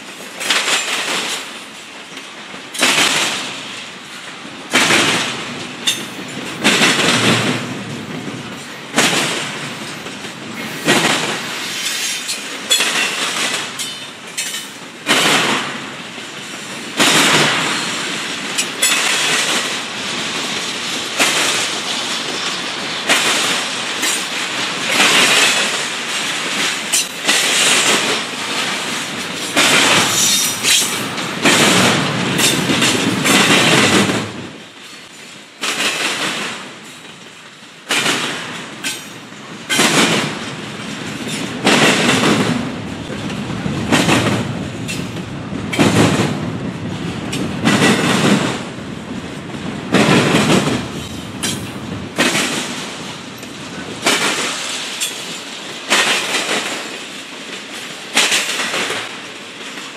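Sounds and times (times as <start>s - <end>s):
rumble of moving train cars: 0.0s - 59.9s
train wheels clattering: 0.0s - 59.9s.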